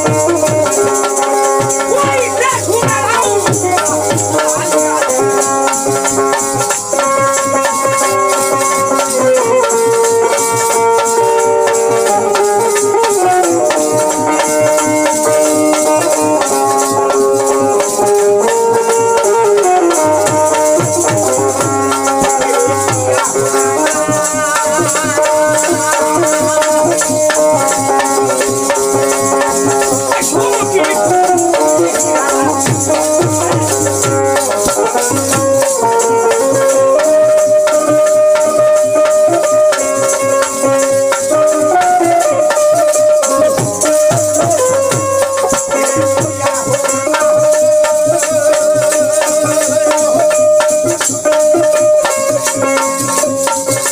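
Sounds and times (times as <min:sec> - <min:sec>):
hand drum playing: 0:00.0 - 0:53.9
harmonium chords: 0:00.0 - 0:53.9
rattling percussion: 0:00.0 - 0:53.9.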